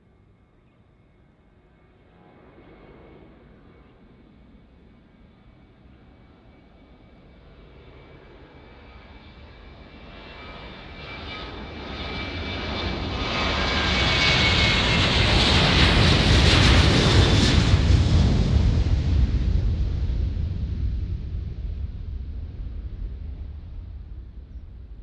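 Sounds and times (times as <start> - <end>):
jet engines at takeoff: 0.0 - 25.0.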